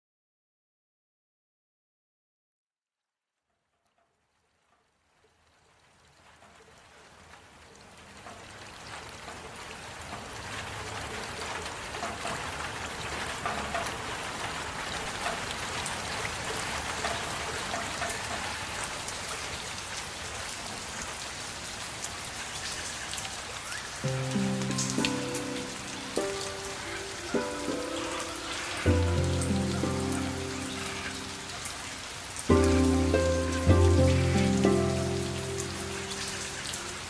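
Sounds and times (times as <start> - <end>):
heavy rain: 5.0 - 37.0.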